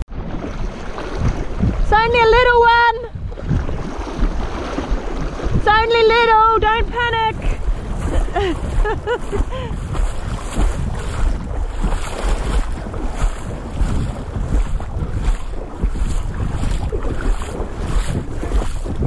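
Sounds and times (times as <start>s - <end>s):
river water rushing: 0.1s - 2.4s, 3.2s - 19.0s
wind buffeting microphone: 0.1s - 19.0s.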